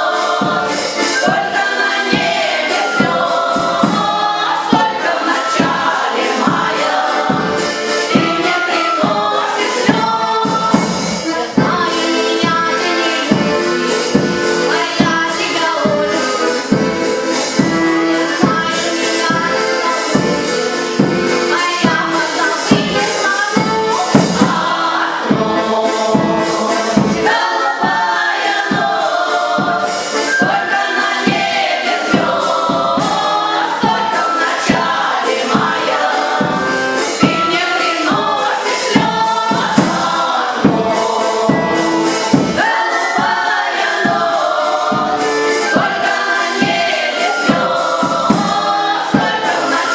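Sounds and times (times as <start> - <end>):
band accompaniment with steady beat: 0.0 - 49.9
choir singing: 0.0 - 49.9.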